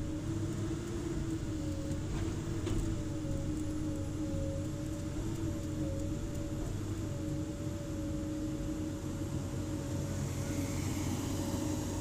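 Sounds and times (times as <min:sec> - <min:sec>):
excavator engine drone: 0:00.0 - 0:12.0
steady hydraulic whine: 0:01.1 - 0:12.0.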